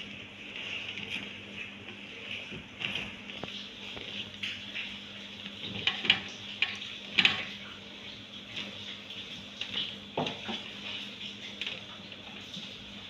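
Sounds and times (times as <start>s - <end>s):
hands kneading pastry dough: 0.0s - 13.0s.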